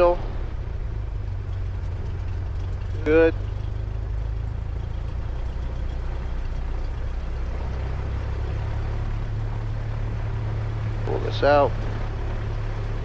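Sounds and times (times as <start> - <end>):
airplane engine idling: 0.0 - 13.0.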